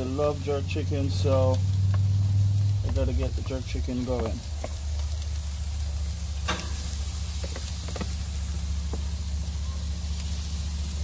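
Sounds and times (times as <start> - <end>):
chicken sizzling on grill: 0.0 - 11.0
steady low rumble: 0.0 - 11.0.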